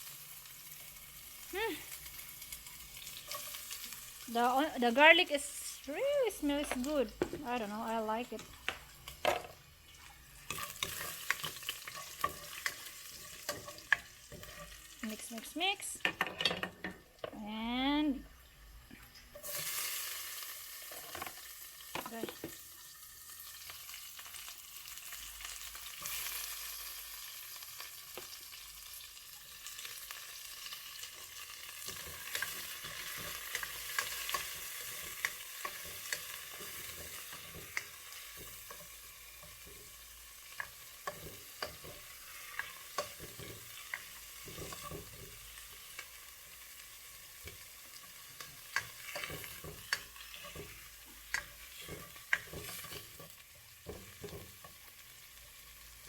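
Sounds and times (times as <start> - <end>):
garlic sizzling in oil: 0.0 - 56.0.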